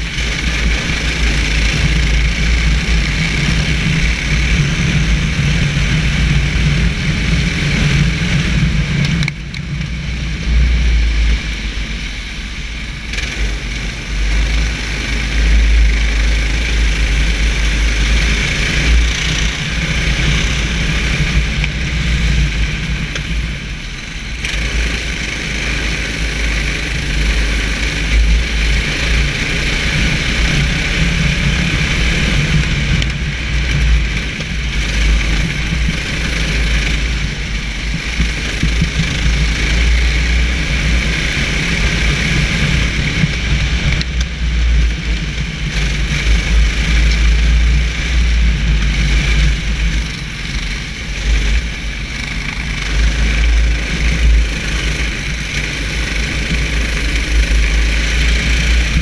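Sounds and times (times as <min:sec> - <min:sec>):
kart engine running: 0:00.0 - 0:59.0
wind rumble: 0:00.0 - 0:59.0.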